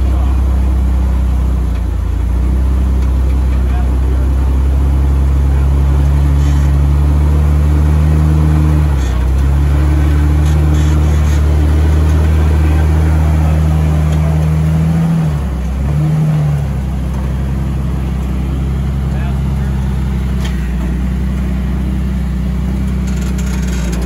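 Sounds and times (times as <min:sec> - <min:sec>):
engine running at low revs: 0:00.0 - 0:24.0.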